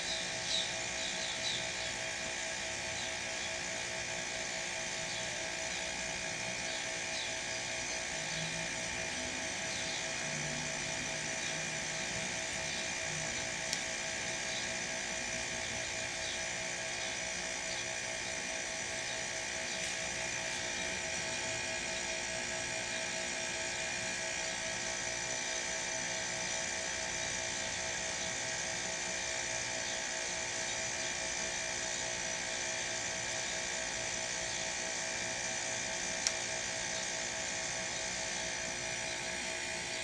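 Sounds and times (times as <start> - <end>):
refrigerator compressors humming: 0.0 - 40.0.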